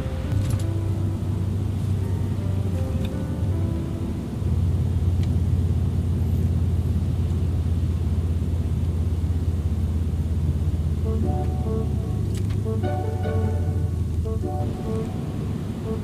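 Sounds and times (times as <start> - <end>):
car driving on rough road: 0.0 - 16.0.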